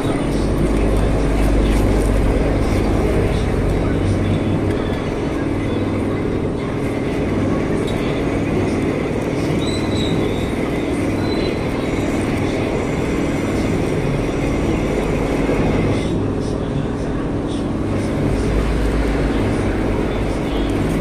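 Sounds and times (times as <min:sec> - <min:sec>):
metal lathe humming: 0:00.0 - 0:21.0.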